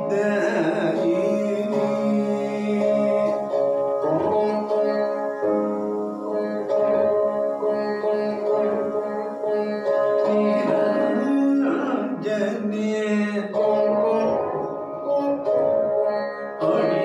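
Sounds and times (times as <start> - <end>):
person singing: 0.0 - 17.0
veena plucked: 0.0 - 17.0.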